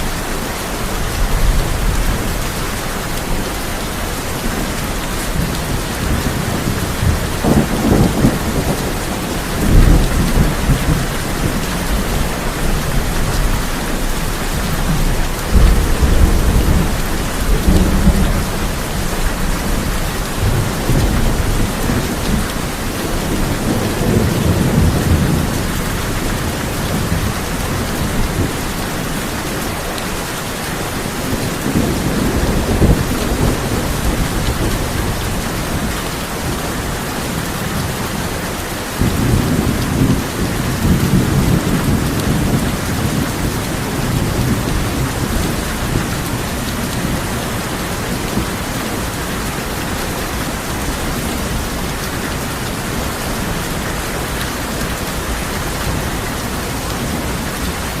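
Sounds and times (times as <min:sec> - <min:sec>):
heavy rain on a tin roof: 0:00.0 - 0:58.0
thunder rumbling: 0:00.0 - 0:58.0.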